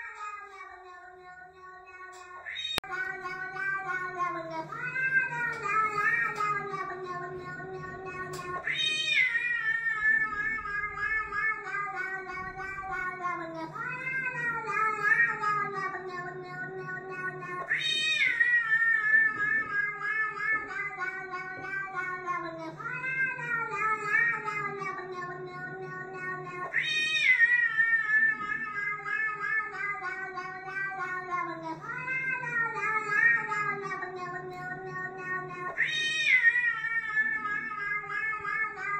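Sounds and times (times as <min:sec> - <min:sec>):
cat meowing through speakers: 0:00.0 - 0:38.9.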